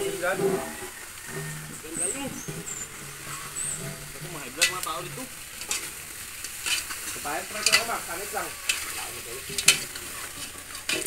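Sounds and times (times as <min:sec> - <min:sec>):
meat sizzling: 0:00.0 - 0:11.0
metal spatula scraping pot: 0:00.0 - 0:11.0.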